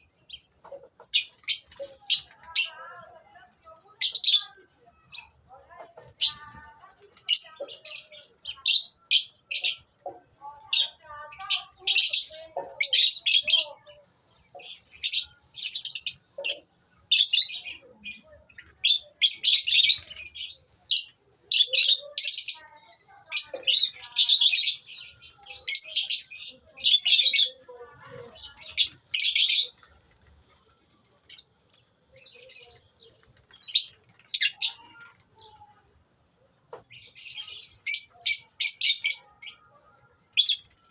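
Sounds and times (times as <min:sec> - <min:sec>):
lovebirds chattering: 0:00.0 - 0:40.9.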